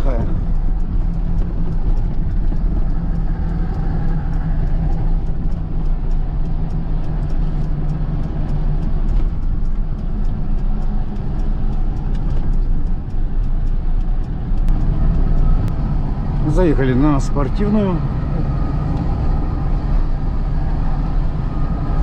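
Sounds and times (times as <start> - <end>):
truck engine drone and road noise: 0.0 - 22.0.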